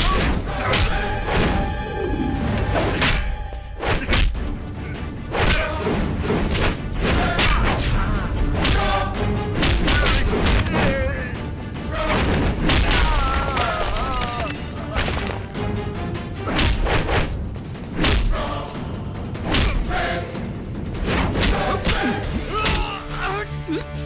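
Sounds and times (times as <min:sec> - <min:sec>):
dramatic background score: 0:00.0 - 0:24.0.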